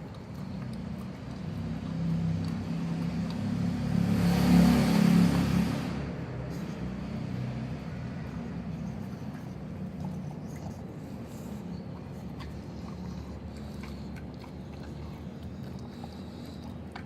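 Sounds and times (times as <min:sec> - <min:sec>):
steady low hum: 0:00.0 - 0:17.0
vehicle passing by: 0:00.3 - 0:17.0.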